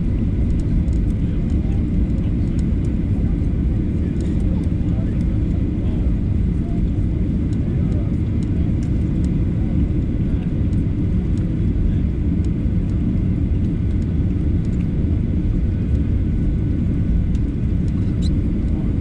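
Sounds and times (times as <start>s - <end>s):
faint hum: 0.0s - 19.0s
jet engines idling rumble: 0.0s - 19.0s.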